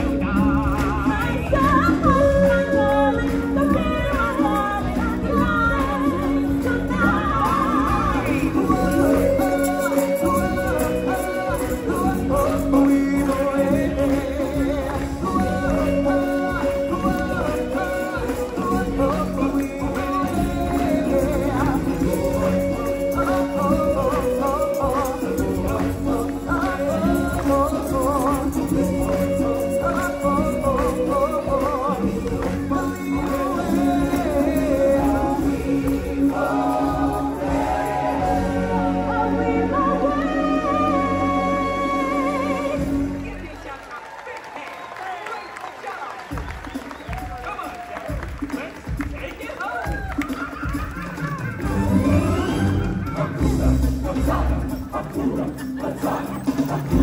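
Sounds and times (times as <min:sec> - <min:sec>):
stage musical singing with accompaniment: 0:00.0 - 0:57.0.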